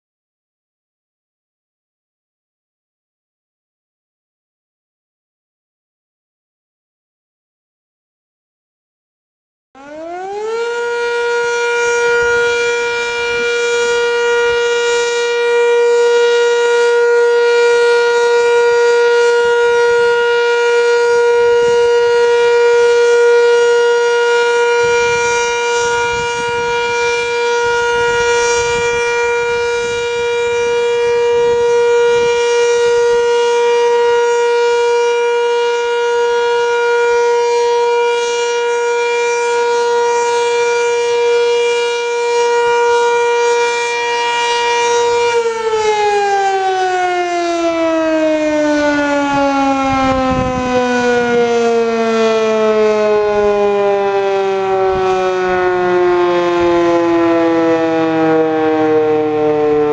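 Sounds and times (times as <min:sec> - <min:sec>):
warning siren steady tone: 0:09.8 - 0:59.9.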